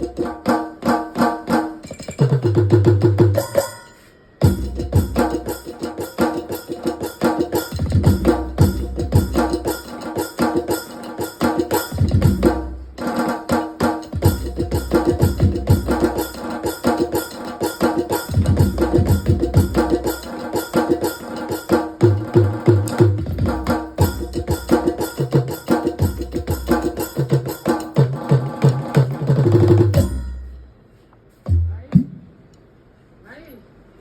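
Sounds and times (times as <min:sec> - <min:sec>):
electronic percussion rhythm: 0:00.0 - 0:30.8, 0:31.4 - 0:32.5.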